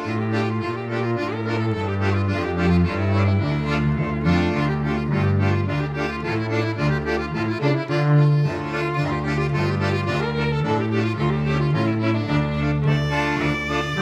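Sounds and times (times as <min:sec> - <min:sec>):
accordion: 0:00.0 - 0:14.0
cello low notes: 0:00.0 - 0:14.0
violin: 0:00.0 - 0:14.0.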